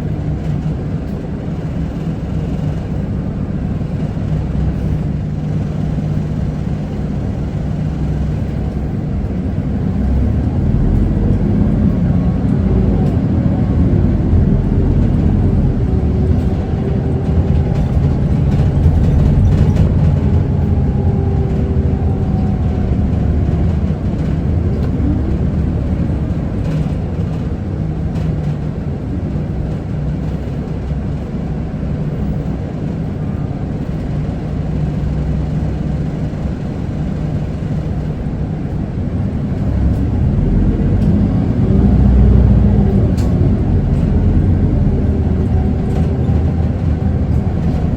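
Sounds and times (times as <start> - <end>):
bus engine rumble inside cabin: 0.0 - 47.9
drivetrain whine: 0.0 - 47.9.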